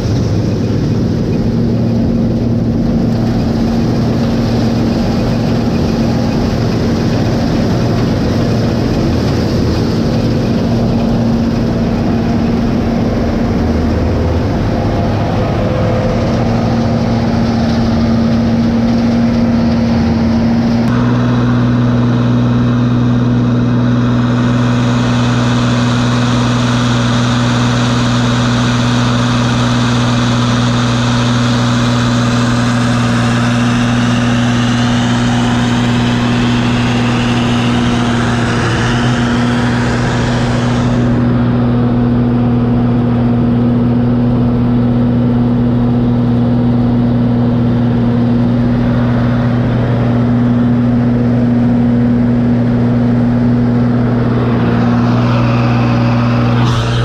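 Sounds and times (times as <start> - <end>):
high rushing noise: 0.0 - 44.2, 47.6 - 57.0
combine engine hum: 0.0 - 57.0.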